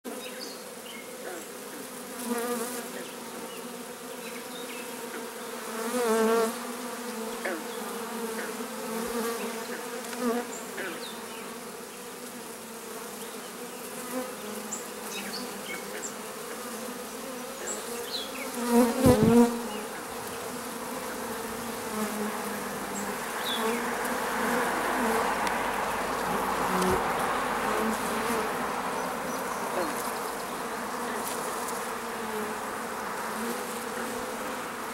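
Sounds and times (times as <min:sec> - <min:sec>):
bee swarm buzzing: 0:00.1 - 0:34.9.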